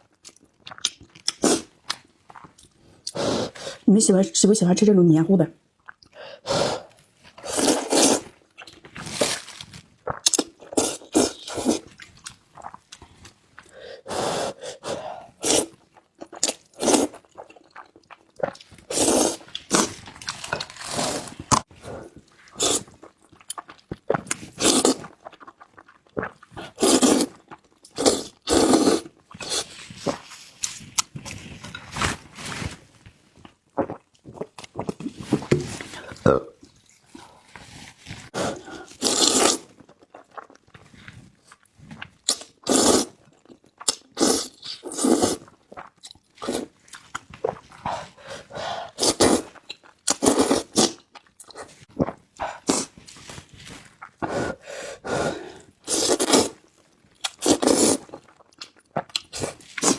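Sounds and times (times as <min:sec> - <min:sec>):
noodles slurped and chewed: 0:00.1 - 0:03.8, 0:05.8 - 0:32.6, 0:33.4 - 0:59.9.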